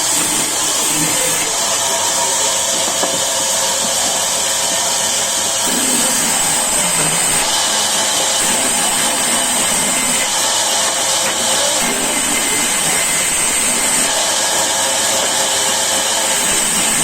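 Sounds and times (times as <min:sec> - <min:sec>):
sawmill saw cutting wood: 0:00.0 - 0:17.0.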